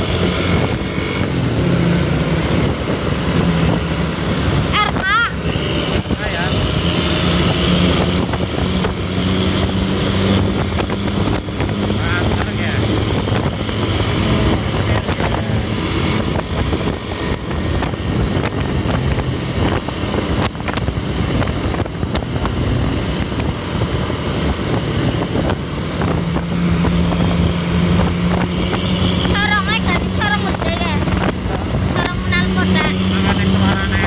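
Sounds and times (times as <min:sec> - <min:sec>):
low drone: 0:00.0 - 0:34.0
traffic engine and road noise: 0:00.0 - 0:34.0.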